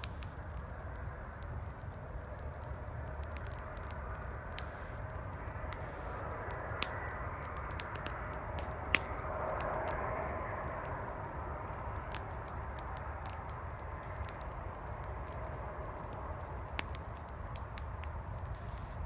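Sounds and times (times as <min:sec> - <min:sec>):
campfire crackling and popping: 0:00.0 - 0:19.0
highway traffic rumble: 0:00.0 - 0:19.0.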